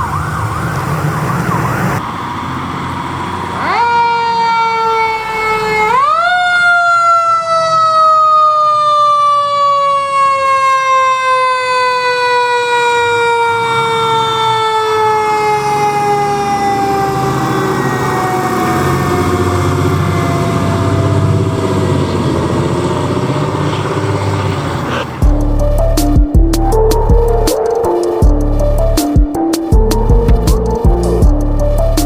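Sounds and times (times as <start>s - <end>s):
truck engine rumble: 0.0s - 6.2s, 11.8s - 32.0s
mechanical siren wailing: 0.0s - 32.0s.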